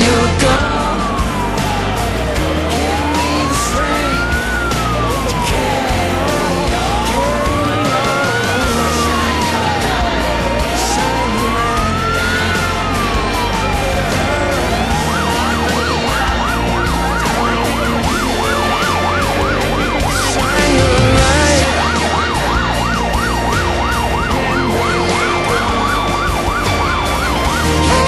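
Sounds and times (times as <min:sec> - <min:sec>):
fire engine siren yelping: 0:00.0 - 0:28.0
truck engine and road noise: 0:00.0 - 0:28.0.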